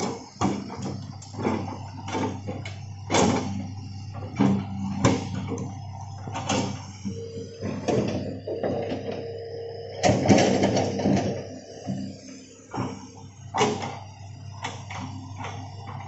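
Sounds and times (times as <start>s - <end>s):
excavator diesel engine running: 0.0s - 16.0s
hydraulic whine: 0.0s - 16.0s.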